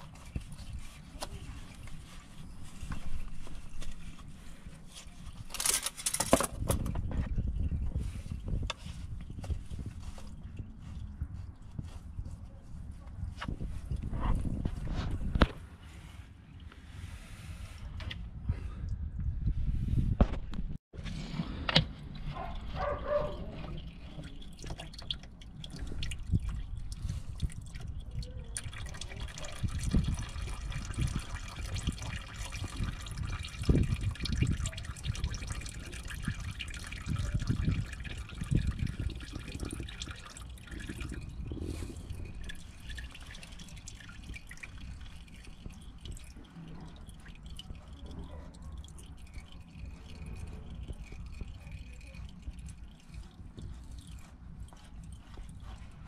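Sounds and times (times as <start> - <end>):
oil pouring and dripping: 0.0 - 12.4, 21.7 - 56.0.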